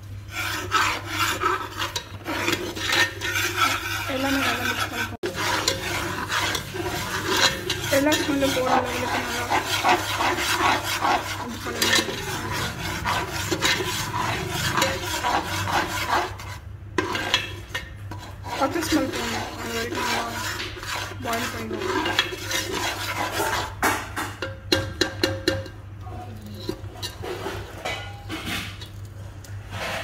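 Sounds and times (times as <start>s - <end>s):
utensil scraping cooking pan: 0.0s - 30.0s.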